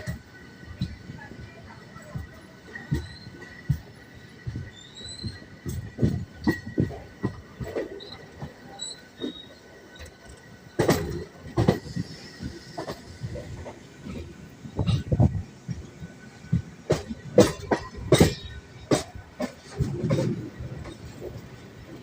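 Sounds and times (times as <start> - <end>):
train running rumble: 0.0 - 22.0
wheels knocking and clattering: 2.0 - 22.0.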